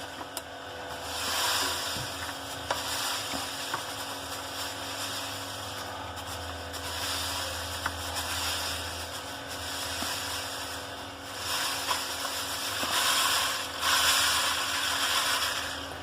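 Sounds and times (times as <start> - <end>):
salt pouring into a dishwasher: 0.8 - 16.0.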